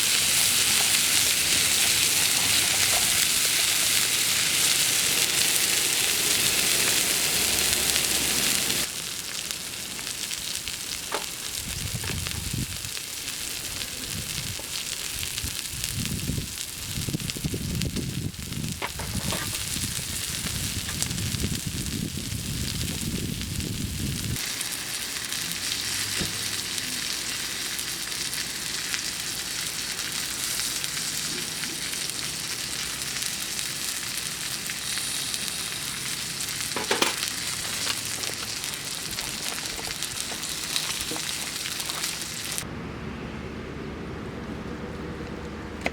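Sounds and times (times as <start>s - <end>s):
steak sizzling: 0.0s - 42.6s.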